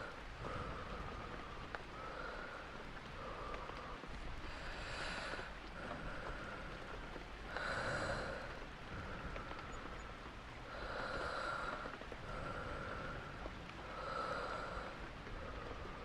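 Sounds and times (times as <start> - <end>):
person breathing: 0.0 - 10.0, 10.7 - 16.0
rain hiss: 0.0 - 16.0.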